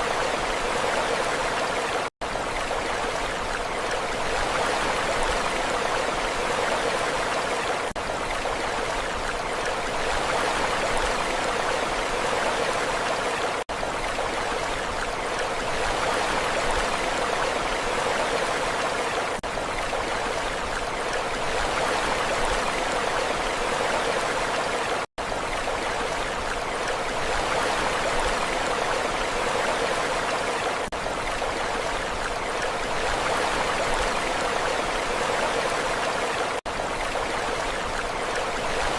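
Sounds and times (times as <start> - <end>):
steady rushing water: 0.0 - 38.9.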